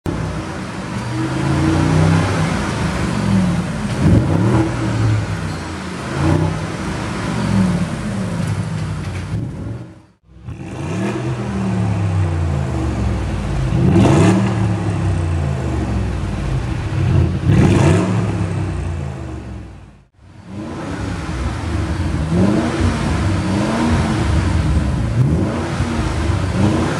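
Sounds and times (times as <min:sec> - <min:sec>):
car engine revving: 0:00.1 - 0:26.9.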